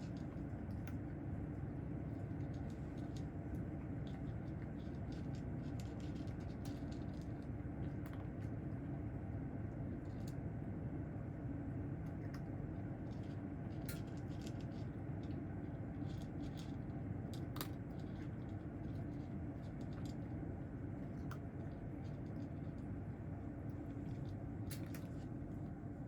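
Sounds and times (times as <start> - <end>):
appliance humming: 0.0 - 26.0.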